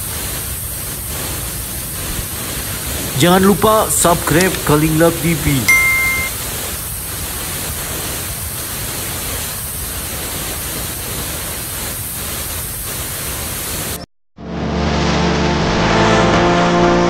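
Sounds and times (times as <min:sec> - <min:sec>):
waterfall pouring into pool: 0:00.0 - 0:14.0.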